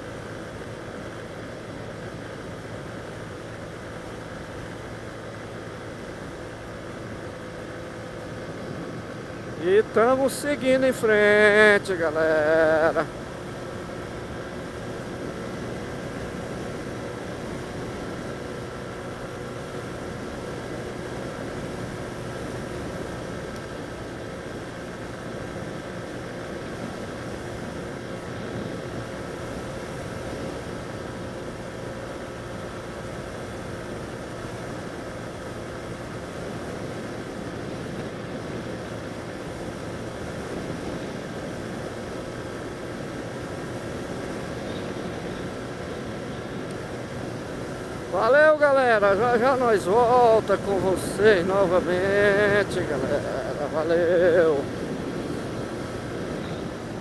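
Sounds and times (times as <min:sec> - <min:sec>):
motorcycle engine running: 0:00.0 - 0:57.0
wind rushing over microphone: 0:07.0 - 0:32.6, 0:35.1 - 0:57.0.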